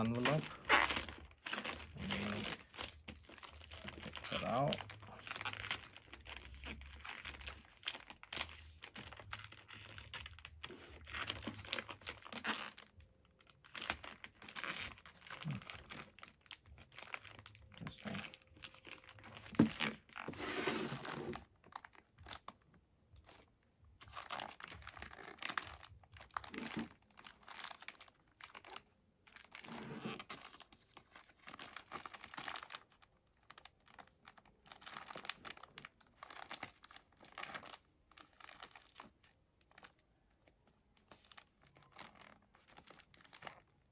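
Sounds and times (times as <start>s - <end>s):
plastic bag crinkling: 0.0s - 43.9s
sharp crackle of plastic: 0.0s - 43.9s.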